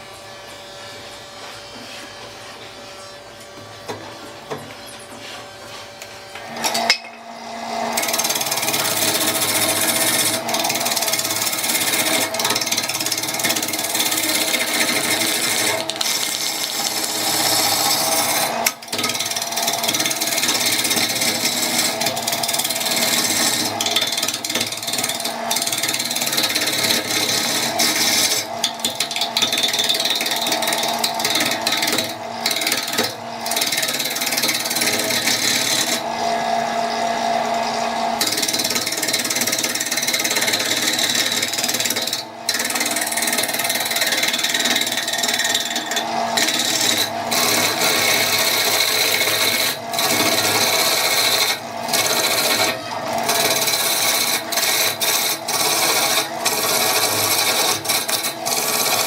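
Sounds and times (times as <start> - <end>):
power tool cutting wood: 6.4 - 59.0.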